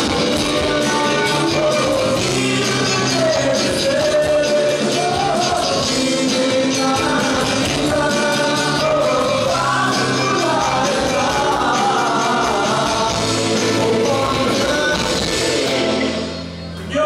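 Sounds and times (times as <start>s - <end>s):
man singing into microphone: 0.0s - 16.1s
bass line: 0.0s - 17.0s
electric guitar: 0.0s - 17.0s
live rock band: 0.0s - 17.0s.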